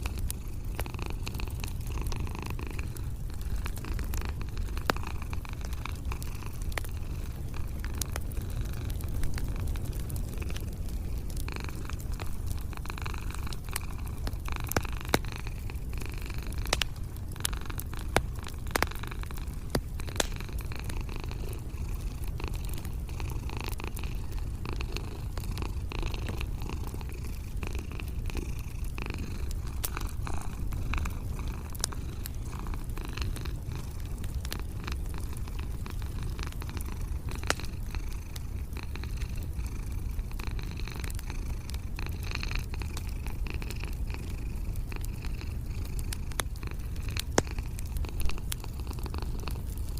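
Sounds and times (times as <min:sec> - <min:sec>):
cat purring: 0:00.0 - 0:49.9
wood fire crackling: 0:00.0 - 0:49.9.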